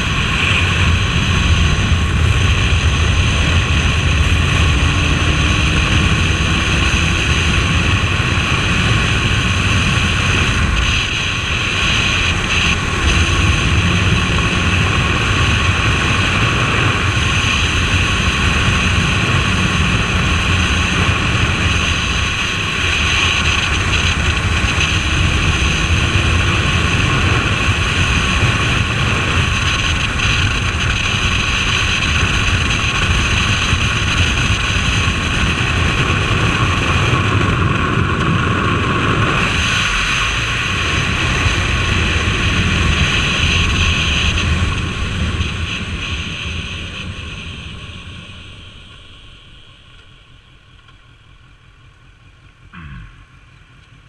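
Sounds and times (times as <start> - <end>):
wind rush: 0.0 - 49.6
motorcycle engine running: 0.0 - 54.0
road noise: 0.0 - 54.0.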